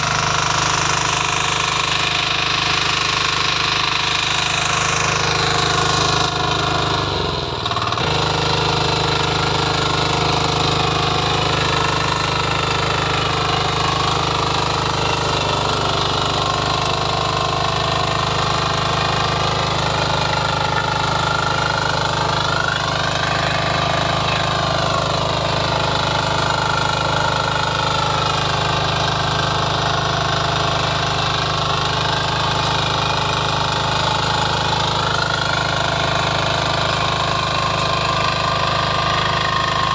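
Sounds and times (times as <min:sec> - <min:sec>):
small engine hammering: 0:00.0 - 0:39.9.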